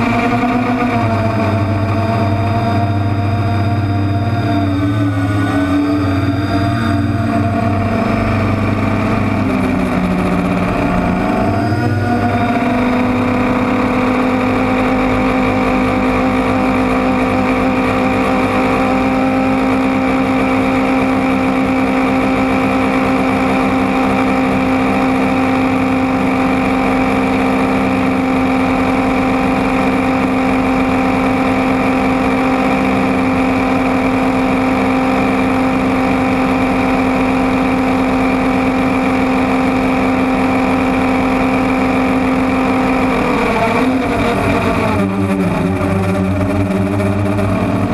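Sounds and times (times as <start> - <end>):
drone propellers whining: 0.0 - 47.9.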